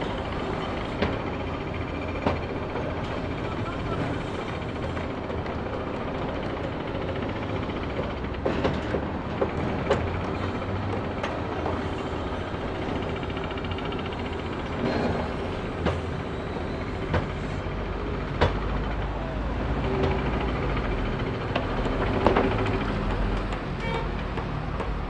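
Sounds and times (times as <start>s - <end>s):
machinery running: 0.0s - 25.0s
sharp knocks and clanks: 0.1s - 19.1s, 19.8s - 25.0s.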